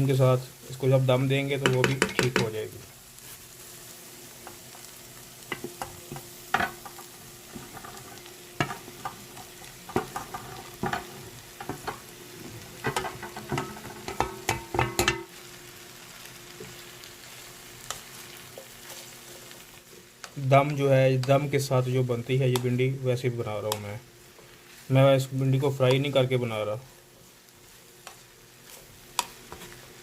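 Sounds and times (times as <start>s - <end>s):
low sizzle: 0.0s - 30.0s.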